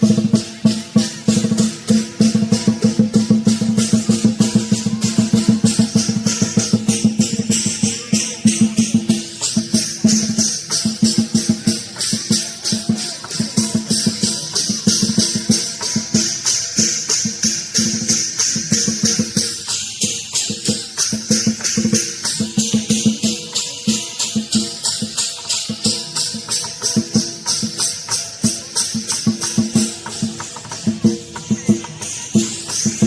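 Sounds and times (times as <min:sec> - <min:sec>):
big drum beating: 0:00.0 - 0:33.0
cymbals clashing: 0:00.0 - 0:33.0.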